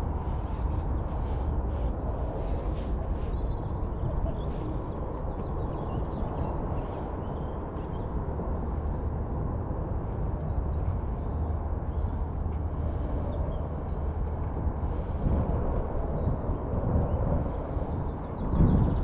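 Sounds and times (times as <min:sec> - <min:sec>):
songbirds chirping and trilling: 0:00.0 - 0:19.0
steady low rumble: 0:00.0 - 0:19.0.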